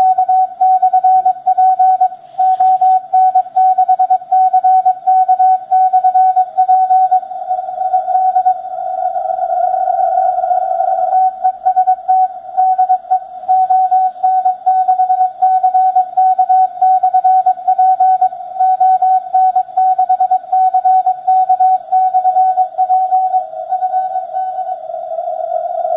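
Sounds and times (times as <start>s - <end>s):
morse code tone: 0.0s - 7.2s, 11.2s - 24.8s.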